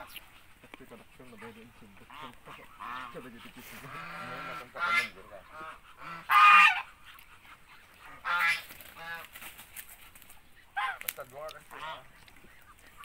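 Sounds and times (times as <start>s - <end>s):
ducks calling harshly: 0.0s - 13.0s.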